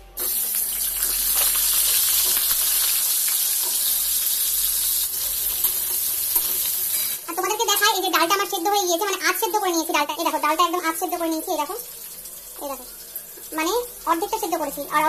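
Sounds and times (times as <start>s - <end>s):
vegetables sizzling in hot oil: 0.1s - 15.0s.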